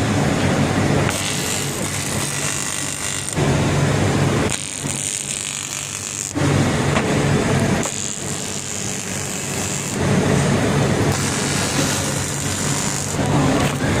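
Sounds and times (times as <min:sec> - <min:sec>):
welding arc buzzing: 0:00.0 - 0:14.0.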